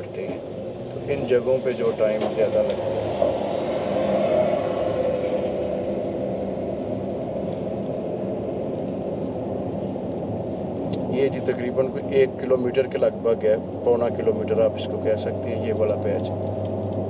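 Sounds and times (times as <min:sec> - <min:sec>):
car driving on stony road: 0:00.0 - 0:17.0.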